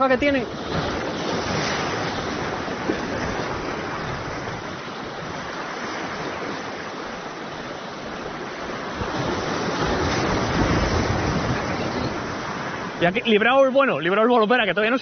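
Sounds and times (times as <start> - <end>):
surf washing against rocks: 0.0 - 15.0.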